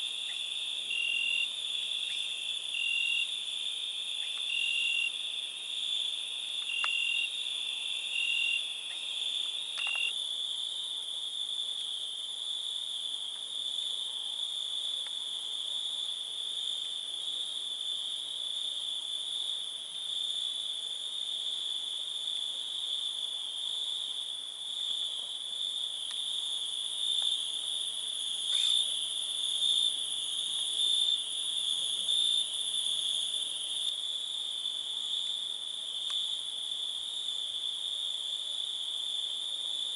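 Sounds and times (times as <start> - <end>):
crickets trilling: 0.0 - 12.9, 18.8 - 39.9.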